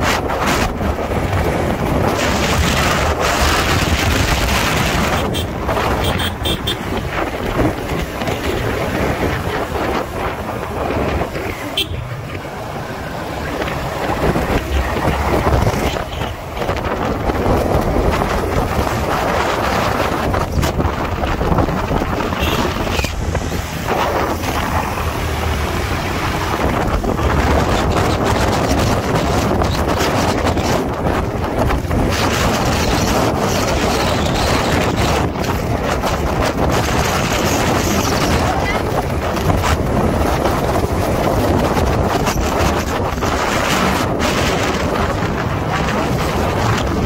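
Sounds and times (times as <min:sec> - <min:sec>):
wind buffeting microphone: 0:00.0 - 0:47.0
motorcycle engine running: 0:00.5 - 0:47.0.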